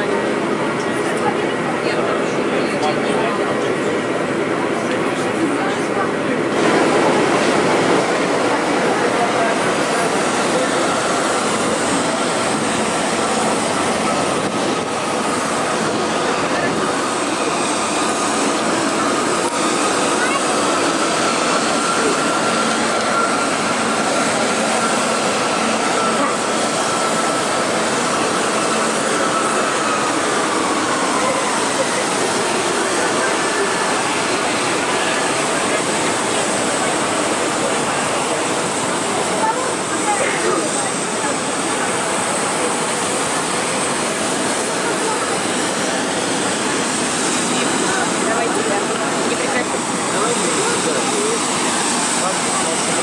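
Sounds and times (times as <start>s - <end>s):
aircraft cabin engine rush: 0.0s - 53.0s.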